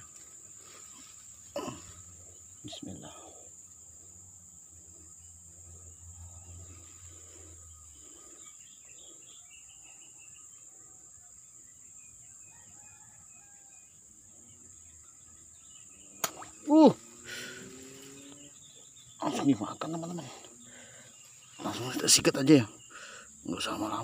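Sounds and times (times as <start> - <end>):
high insect drone: 0.0 - 24.0
small birds chirping: 0.0 - 24.0.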